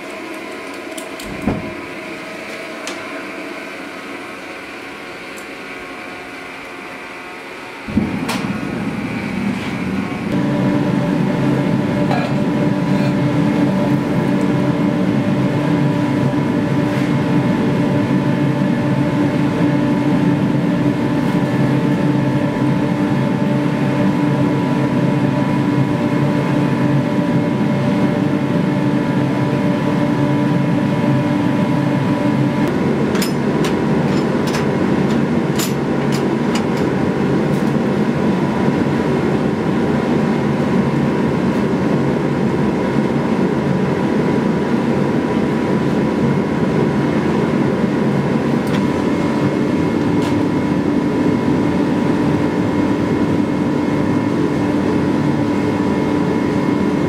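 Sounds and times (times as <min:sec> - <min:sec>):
gas forges roaring: 0:00.0 - 0:57.0.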